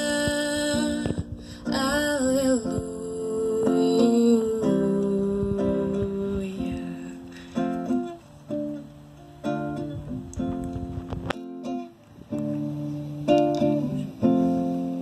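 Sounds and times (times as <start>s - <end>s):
acoustic guitar playing chords: 0.0s - 15.0s.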